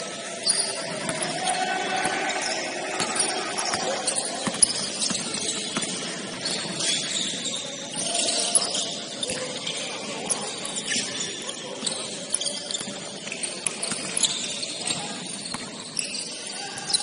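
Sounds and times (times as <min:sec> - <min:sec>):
steady crowd din: 0:00.0 - 0:17.0
shoe squeaks on court: 0:00.4 - 0:17.0.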